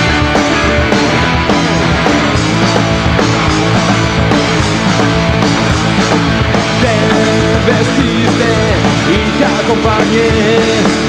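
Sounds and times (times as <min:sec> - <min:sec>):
punk rock band playing live: 0:00.0 - 0:11.0.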